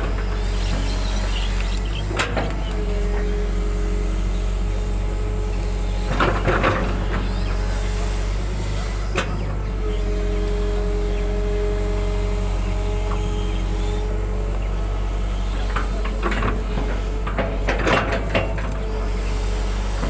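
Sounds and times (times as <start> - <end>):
diesel engine running: 0.0 - 20.0
held whine: 0.0 - 20.0.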